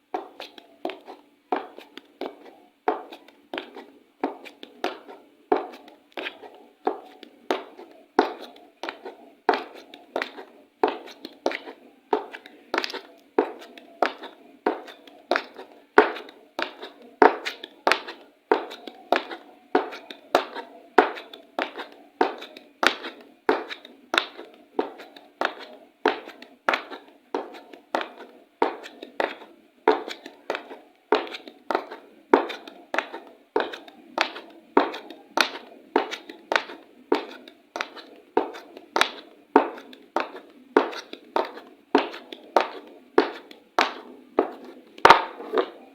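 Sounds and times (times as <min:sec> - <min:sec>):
high heels clicking: 0:00.1 - 0:45.9.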